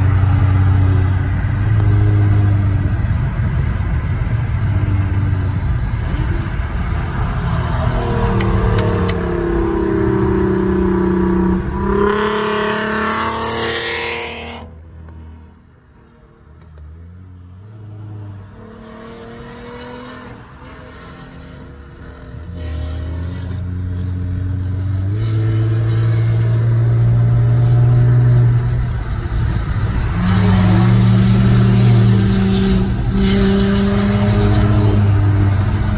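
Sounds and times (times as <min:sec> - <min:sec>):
car engine under load: 0:00.0 - 0:35.9.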